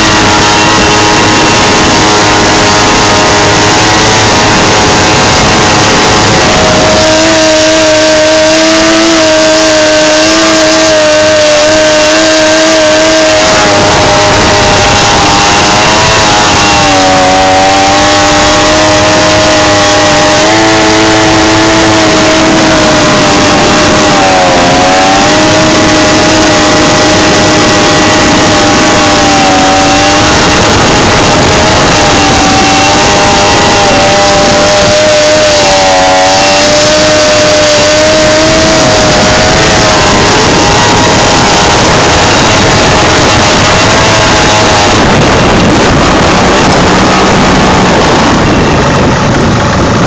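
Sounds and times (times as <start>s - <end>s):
heavy rush of noise: 0.0s - 50.0s
outboard motor running hard: 0.0s - 50.0s.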